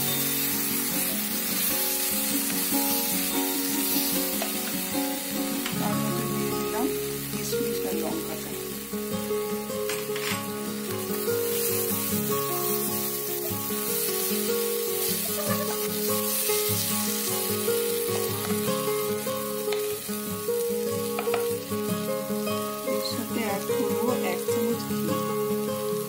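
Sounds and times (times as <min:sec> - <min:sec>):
background music: 0:00.0 - 0:26.0
masala sizzling in a pan: 0:00.0 - 0:26.0.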